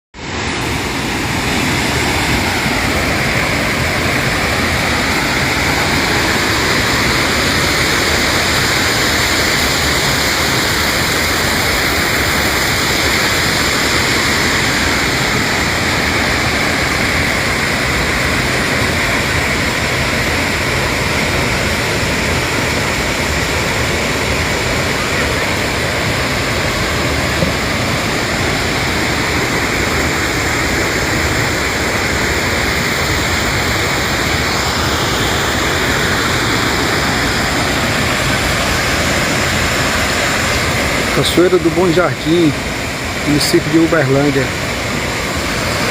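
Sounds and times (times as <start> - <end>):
waterfall crashing into pool: 0.2 - 45.9.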